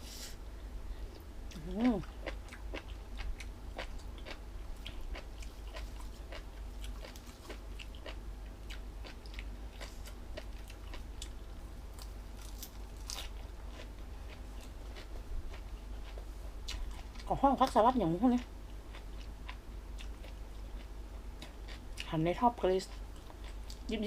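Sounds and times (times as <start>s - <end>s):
crunchy chewing: 1.1s - 22.2s, 22.8s - 24.0s.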